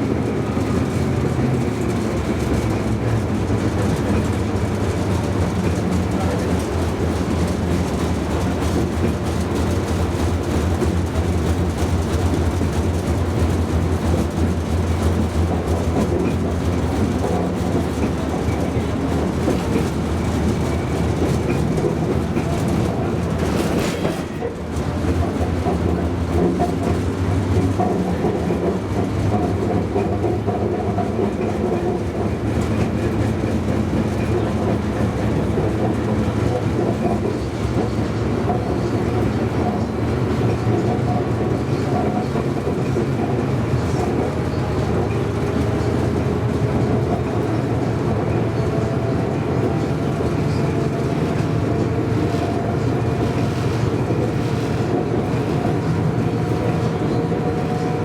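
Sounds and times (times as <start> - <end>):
tram motors and wheels humming: 0.0 - 58.0.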